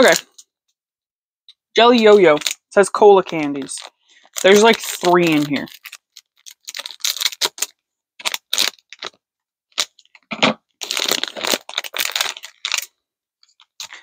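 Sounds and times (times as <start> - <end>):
plastic wrapper crinkling: 0.0 - 0.5, 1.8 - 14.0.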